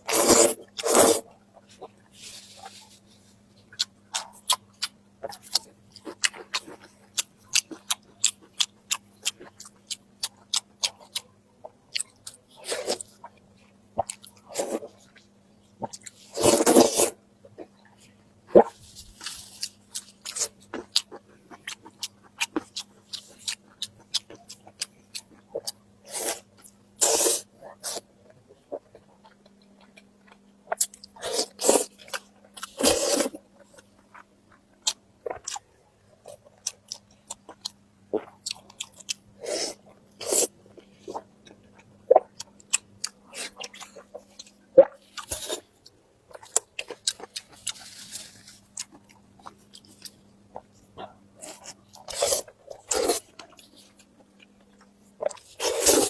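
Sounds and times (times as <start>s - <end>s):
faint steady hum: 0.0s - 56.0s
food chewing and crunching: 0.0s - 56.0s.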